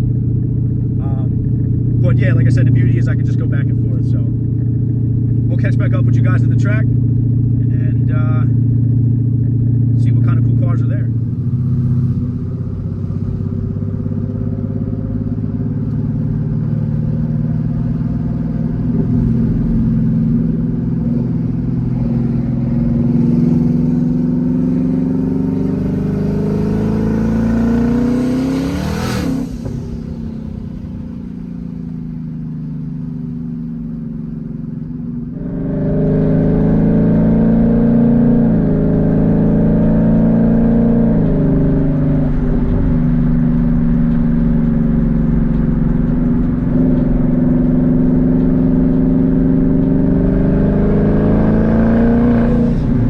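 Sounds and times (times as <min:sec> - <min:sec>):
turbo car engine accelerating: 0:00.0 - 0:53.0.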